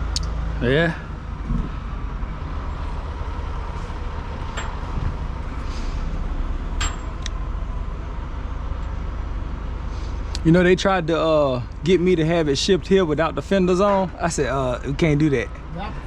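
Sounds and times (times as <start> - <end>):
heavy vehicle engine idling: 0.0 - 16.0.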